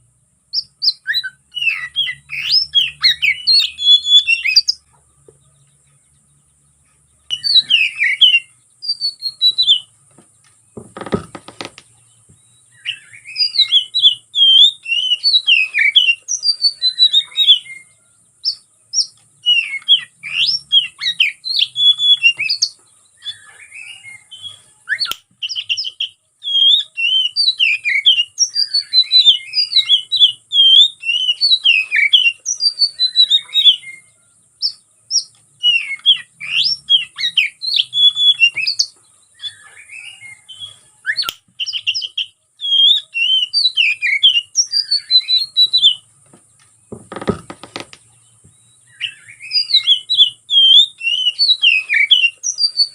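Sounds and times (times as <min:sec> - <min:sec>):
bird singing varied phrases: 0:00.0 - 0:52.9.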